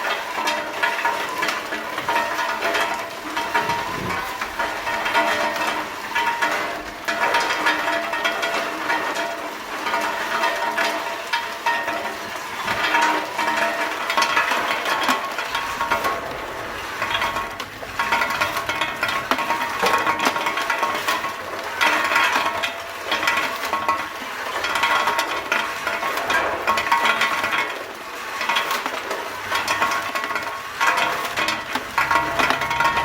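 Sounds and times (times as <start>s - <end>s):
nuts rattling in sorting machine: 0.0s - 33.0s.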